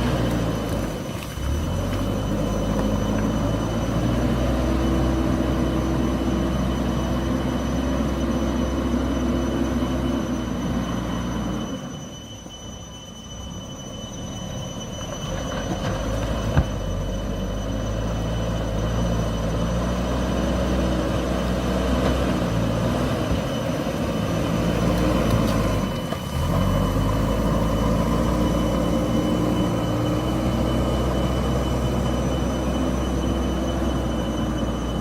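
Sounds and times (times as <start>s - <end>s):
diesel engine running: 0.0s - 35.0s
steady high whine: 0.0s - 35.0s.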